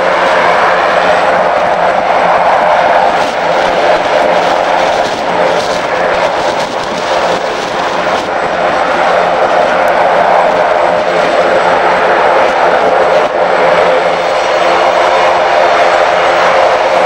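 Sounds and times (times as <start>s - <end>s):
aircraft engine noise: 0.0s - 17.0s.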